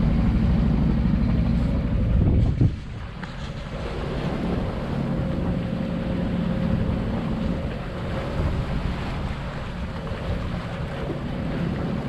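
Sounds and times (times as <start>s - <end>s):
boat motor droning: 0.0s - 12.0s
waves washing past boat: 0.0s - 12.0s
wind buffeting microphone: 0.0s - 12.0s.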